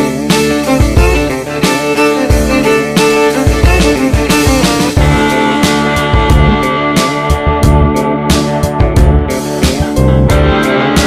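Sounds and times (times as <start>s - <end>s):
song with fiddle or guitar: 0.0s - 11.0s.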